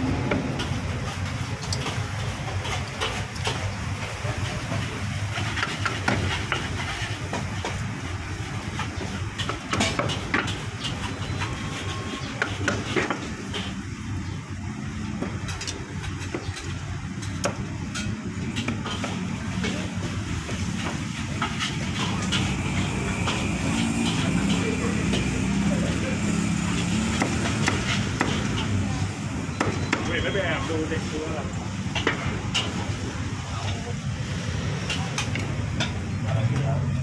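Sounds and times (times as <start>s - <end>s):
road traffic hum: 0.0s - 37.0s.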